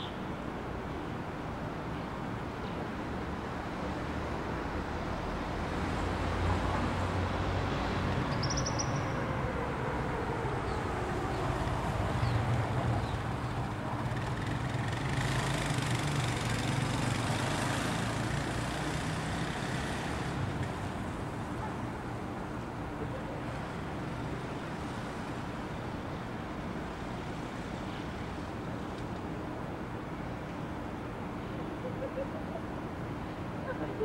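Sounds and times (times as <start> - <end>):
distant city traffic rumble: 0.0 - 34.0.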